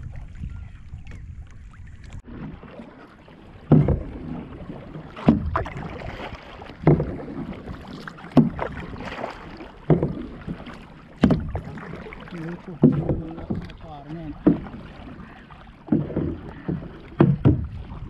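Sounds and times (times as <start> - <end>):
low wash of water: 0.0 - 18.0
paddle splashing into water: 0.0 - 18.0.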